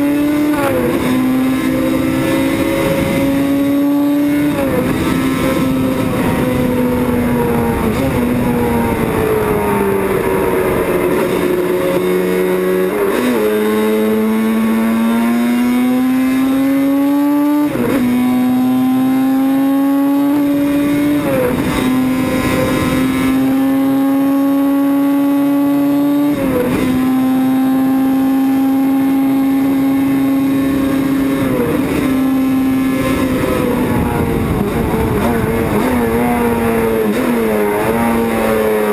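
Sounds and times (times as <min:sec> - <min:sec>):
racing engine running hard: 0:00.0 - 0:38.9.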